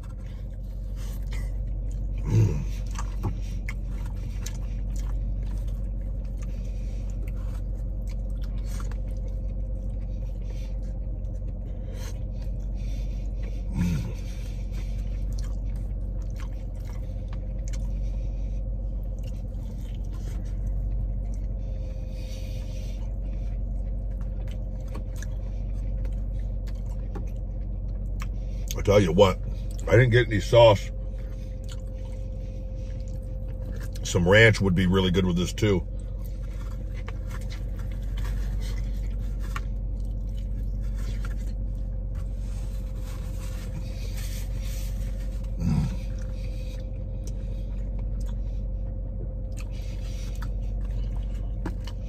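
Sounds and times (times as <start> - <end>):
low hum inside a car: 0.0 - 52.0
man chewing crunchy food: 0.0 - 52.0.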